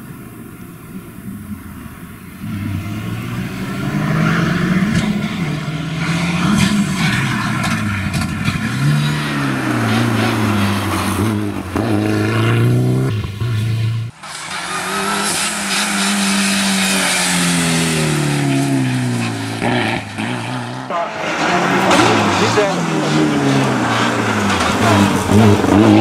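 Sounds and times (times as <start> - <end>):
rally car engine: 0.0 - 26.0.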